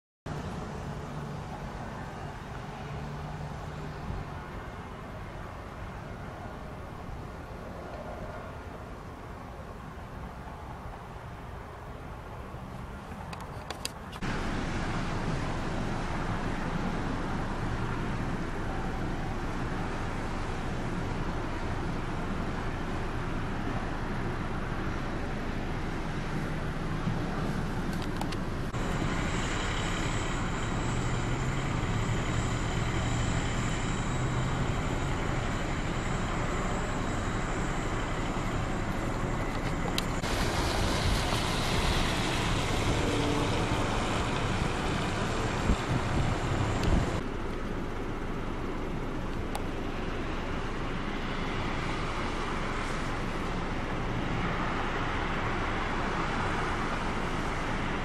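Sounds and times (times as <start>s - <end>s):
road traffic with engines running: 0.3s - 58.0s.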